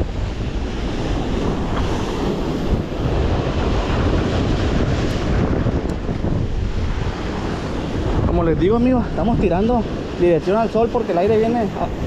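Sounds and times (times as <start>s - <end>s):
ocean surf breaking on rocks: 0.0s - 12.0s
wind buffeting microphone: 0.0s - 12.0s.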